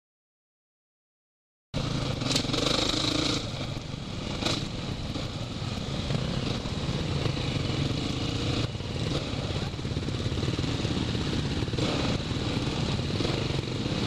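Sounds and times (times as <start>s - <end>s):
off-road motorcycle engine: 1.8s - 14.0s.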